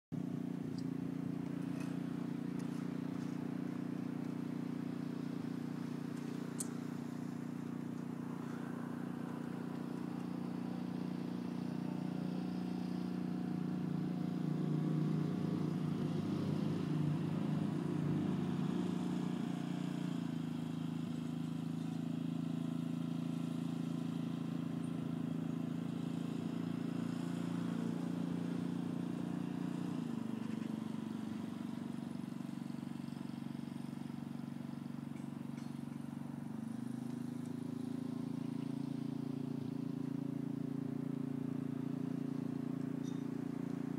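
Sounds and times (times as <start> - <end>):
engine humming: 0.1 - 43.9.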